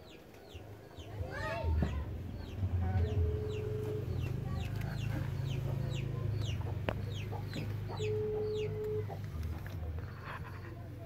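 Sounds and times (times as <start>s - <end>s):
chicks peeping: 0.0s - 10.8s
low steady hum: 0.2s - 11.0s.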